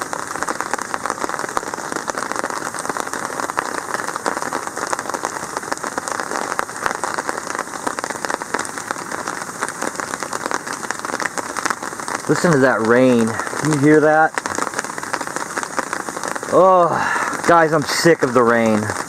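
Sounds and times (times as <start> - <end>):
heavy rain on a tarp: 0.0 - 19.0.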